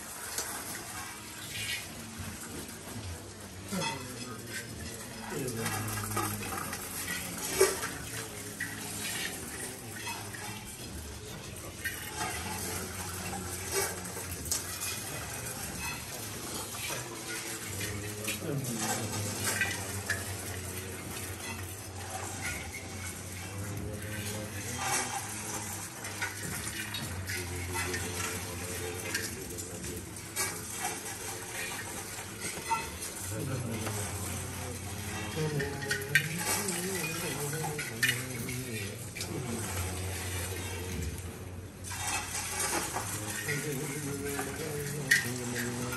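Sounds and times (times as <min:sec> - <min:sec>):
rice pouring over metal plates: 0:00.0 - 0:45.9.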